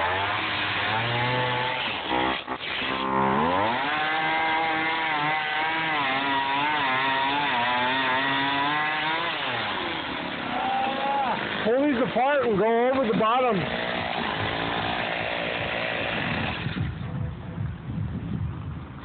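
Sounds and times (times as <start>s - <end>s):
chainsaw cutting foam: 0.0s - 17.0s.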